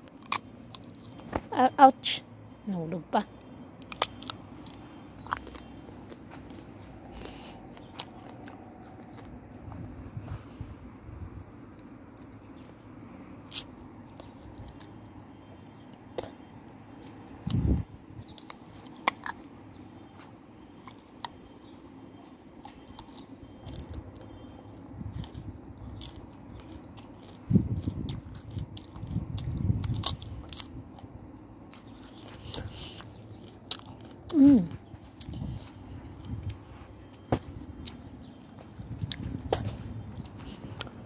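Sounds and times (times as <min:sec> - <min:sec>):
person chewing crunchy fruit: 0:00.0 - 0:01.9, 0:03.2 - 0:41.0.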